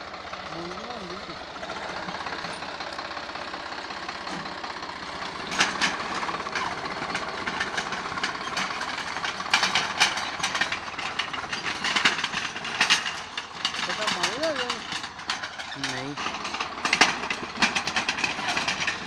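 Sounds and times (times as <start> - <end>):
sharp clanks and rattles: 0.0 - 19.0
tractor diesel engine running: 0.0 - 19.0.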